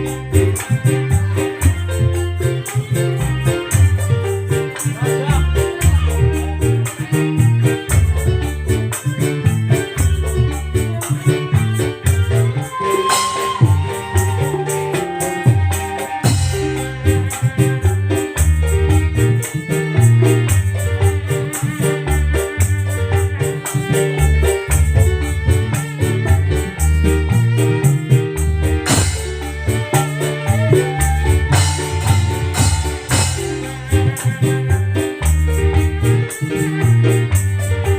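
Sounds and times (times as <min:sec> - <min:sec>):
loud music with heavy bass: 0:00.0 - 0:37.9
shaker-like percussion: 0:00.0 - 0:37.9.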